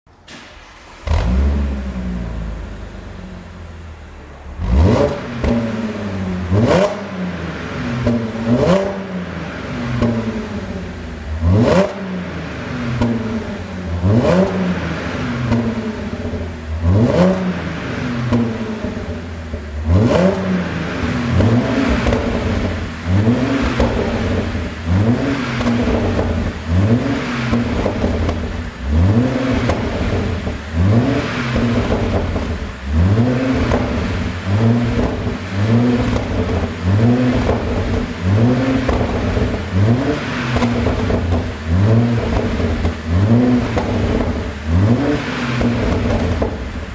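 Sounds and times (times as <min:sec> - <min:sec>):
car engine revving: 0:00.1 - 0:46.9
exhaust pops and crackles: 0:04.1 - 0:46.9.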